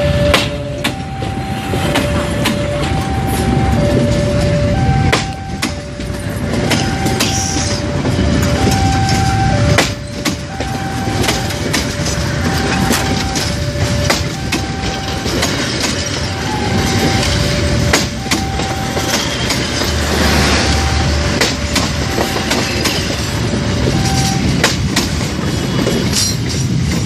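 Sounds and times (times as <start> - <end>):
two-tone crossing alarm: 0.0 - 26.2
train rumbling past: 0.0 - 27.0
train wheels clacking: 0.2 - 27.0.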